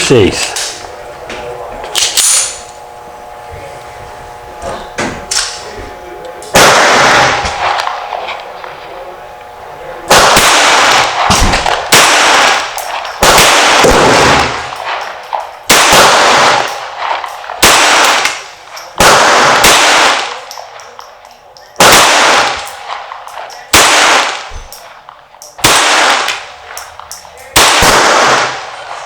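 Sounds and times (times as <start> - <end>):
pistol shots with echo: 5.2 - 8.8, 9.4 - 29.0.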